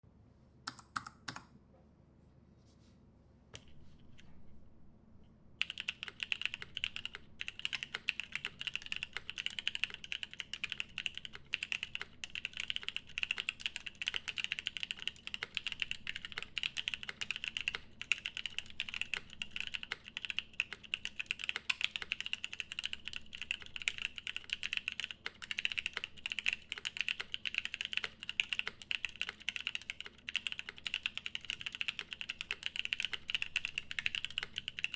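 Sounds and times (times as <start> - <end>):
typing on mechanical keyboard: 0.7 - 1.5, 5.6 - 34.9.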